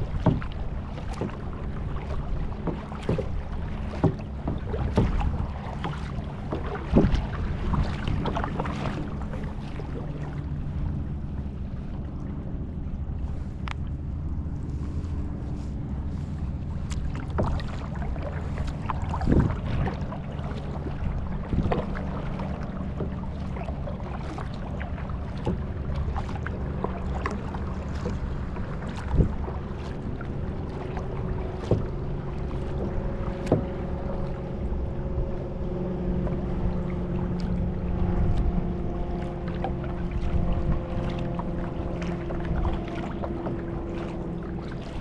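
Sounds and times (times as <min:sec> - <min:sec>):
engine drone: 0:00.0 - 0:45.0.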